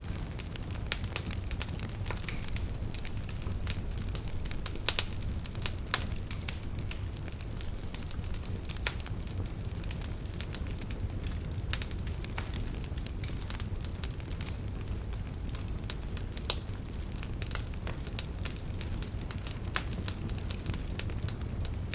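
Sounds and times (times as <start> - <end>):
burning wood crackling and popping: 0.0 - 21.9
low rumble of flame: 0.0 - 21.9.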